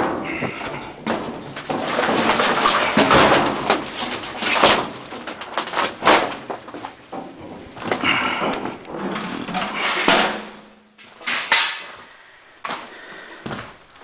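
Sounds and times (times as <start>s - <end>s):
drywall scraping over metal: 0.0s - 11.8s.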